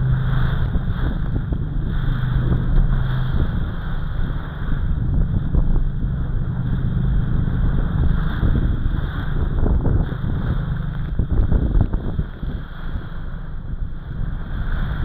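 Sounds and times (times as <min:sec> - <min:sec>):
hull slapping through waves: 0:00.0 - 0:15.0
wind buffeting microphone: 0:00.0 - 0:15.0.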